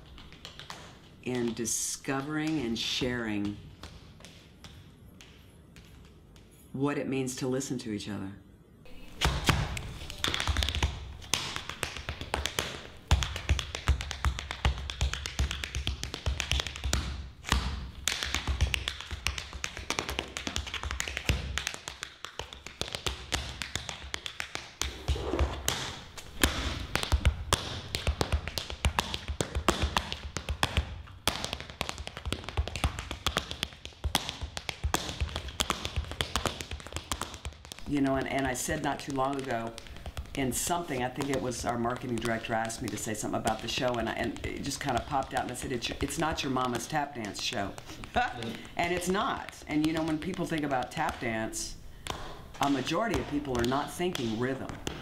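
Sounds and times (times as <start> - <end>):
tap shoes on hard floor: 0.0 - 6.6, 9.1 - 55.0.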